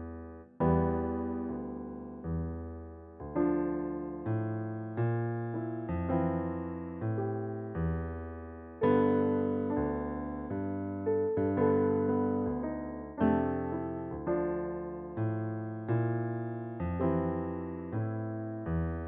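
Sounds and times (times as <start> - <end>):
slow solo piano chords: 0.0 - 19.0.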